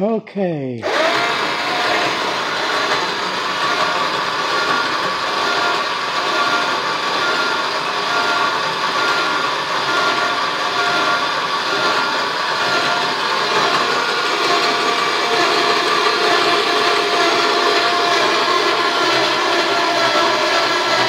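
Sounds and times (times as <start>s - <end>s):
electric hoist motor whirring: 0.8s - 21.0s.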